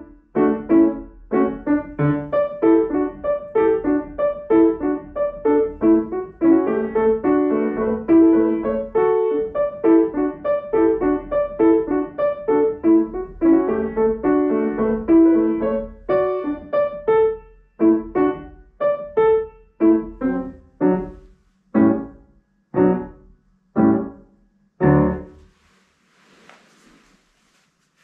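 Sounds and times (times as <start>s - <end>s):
solo piano playing: 0.0s - 25.4s.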